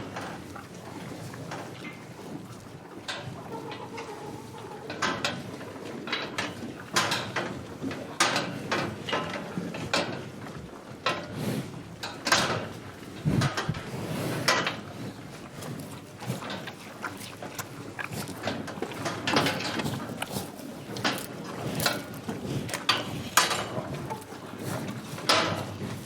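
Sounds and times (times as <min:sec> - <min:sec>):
cows chewing grass: 0:00.0 - 0:26.0.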